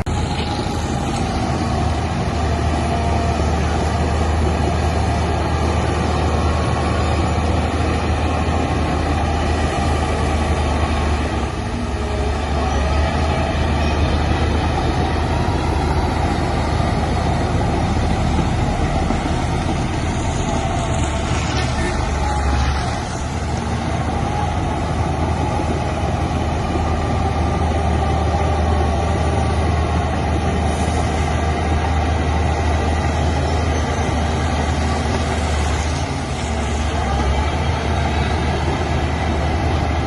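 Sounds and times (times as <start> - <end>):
diesel machinery engine drone: 0.0 - 40.0.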